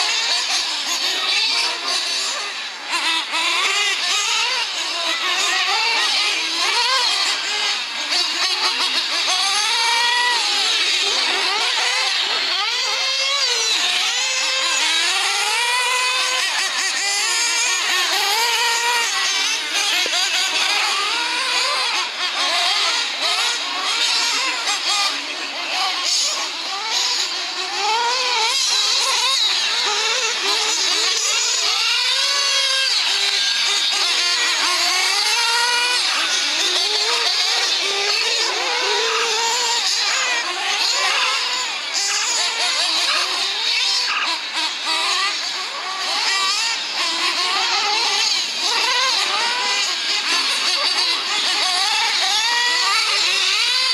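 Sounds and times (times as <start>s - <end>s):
rc car motors whining: 0.0s - 53.9s.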